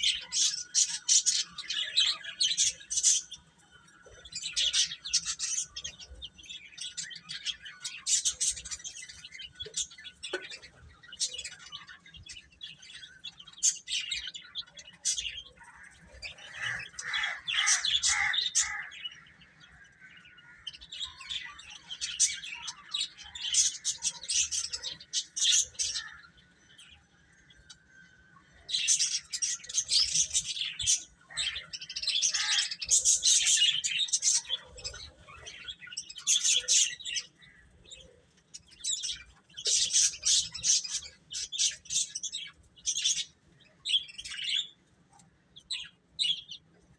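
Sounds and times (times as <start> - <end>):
baby chicks peeping: 0.0 - 27.9, 28.5 - 46.9.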